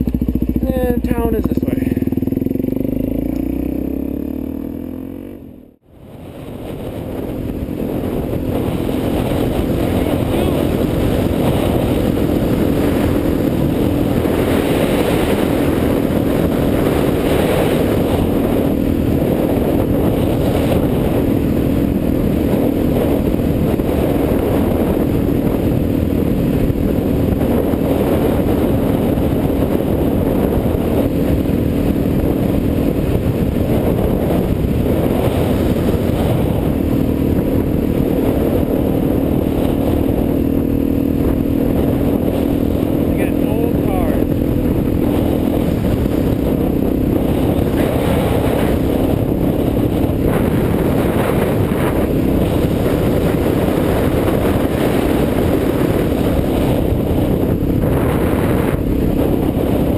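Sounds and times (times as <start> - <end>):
motorcycle engine cruising: 0.0 - 59.9
wind noise on microphone: 0.0 - 59.9.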